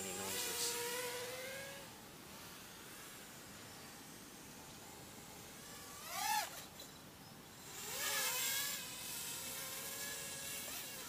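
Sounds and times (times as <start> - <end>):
quadcopter buzzing rush passing: 0.0 - 11.0
quadcopter motors whining: 0.0 - 11.0.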